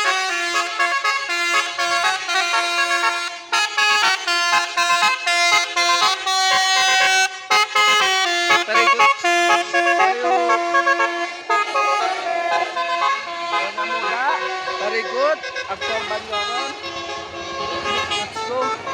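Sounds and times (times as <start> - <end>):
vehicle horn playing melody: 0.0 - 18.9.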